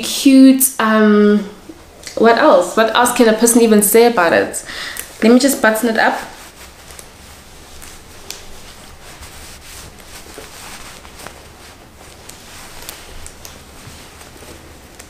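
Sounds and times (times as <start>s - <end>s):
fabric rustling: 1.4s - 15.0s.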